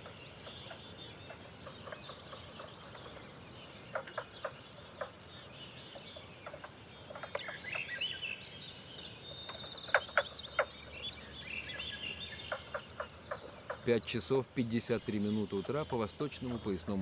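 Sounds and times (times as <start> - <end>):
sharp bird calls: 0.0 - 17.0
songbirds trilling and chirping: 0.0 - 17.0.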